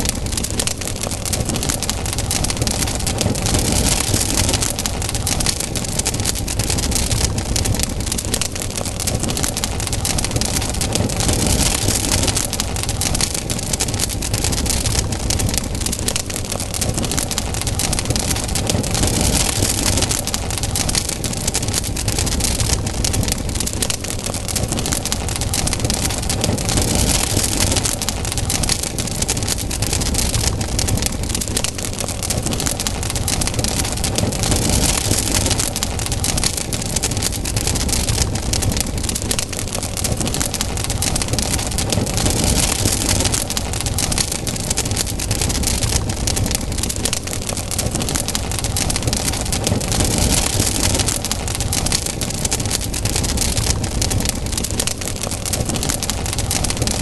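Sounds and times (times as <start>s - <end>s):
campfire crackling and popping: 0.0s - 57.0s
fire hiss and low rumble: 0.0s - 57.0s.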